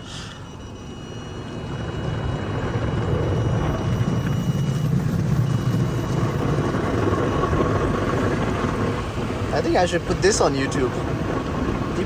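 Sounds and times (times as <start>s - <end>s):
car wash machinery rumbling: 1.0s - 12.0s.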